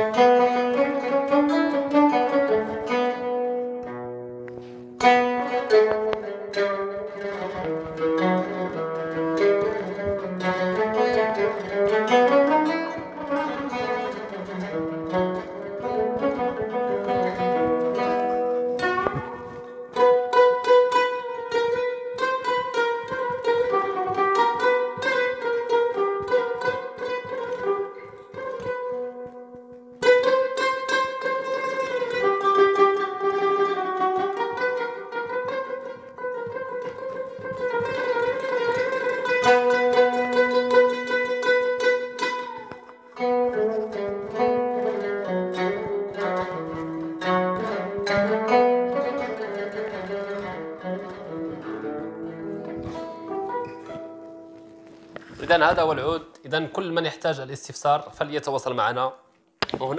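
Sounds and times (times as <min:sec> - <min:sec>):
amplified oud melody: 0:00.0 - 0:59.9.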